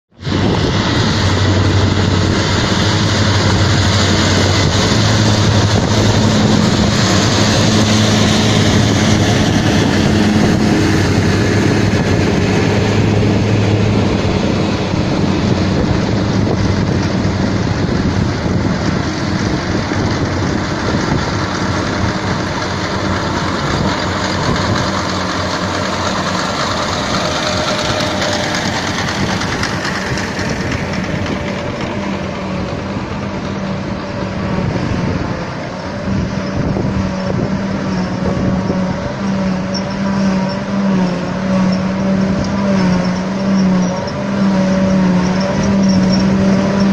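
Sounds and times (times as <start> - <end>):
farm machinery noise: 0.1 - 46.9
tractor diesel engine running: 0.1 - 46.9.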